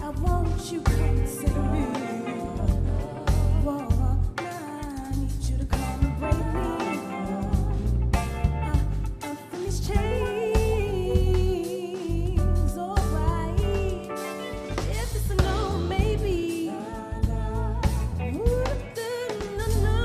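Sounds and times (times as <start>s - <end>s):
live band playing: 0.0s - 20.0s
woman singing: 0.0s - 20.0s.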